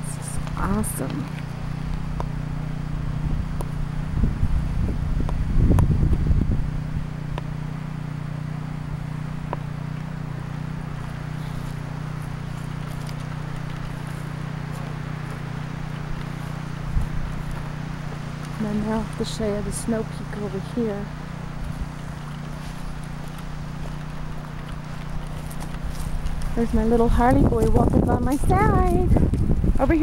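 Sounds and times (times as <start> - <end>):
wind buffeting microphone: 0.0 - 7.6, 11.0 - 30.0
steady low hum: 0.0 - 30.0.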